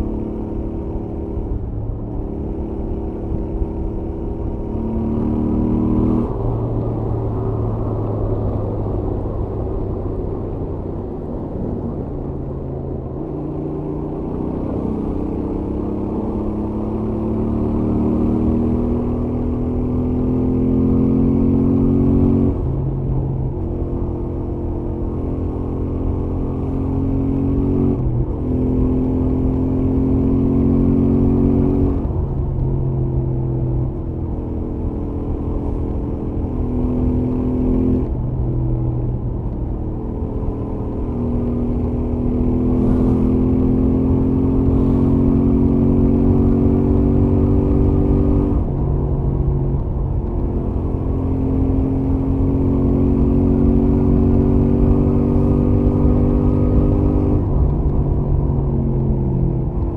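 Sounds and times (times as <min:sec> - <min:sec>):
motorcycle engine at speed: 0:00.0 - 0:59.9.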